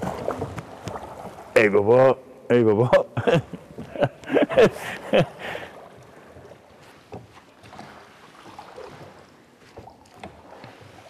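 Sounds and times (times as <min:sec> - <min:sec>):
faint water clicks: 0:00.0 - 0:01.7, 0:03.2 - 0:11.0
oars splashing in water: 0:00.0 - 0:01.9, 0:03.3 - 0:11.0.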